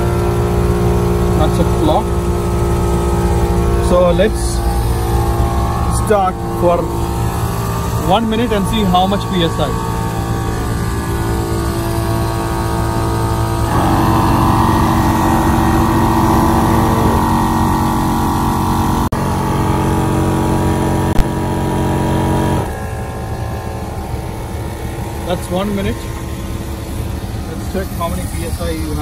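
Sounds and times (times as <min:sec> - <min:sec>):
air compressor motor hum: 0:00.0 - 0:29.0.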